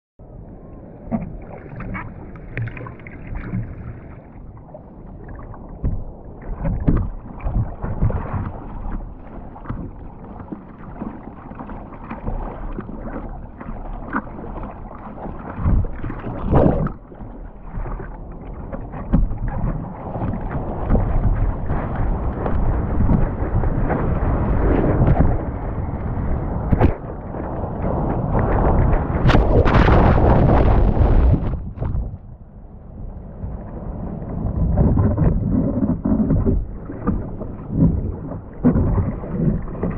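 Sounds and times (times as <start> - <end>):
wind buffeting microphone: 0.2 - 39.9.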